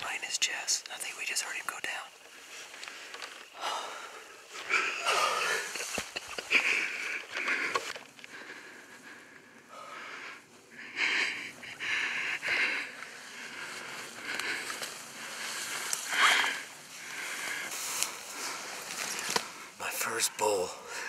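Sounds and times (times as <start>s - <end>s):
person breathing hard: 2.8s - 19.8s.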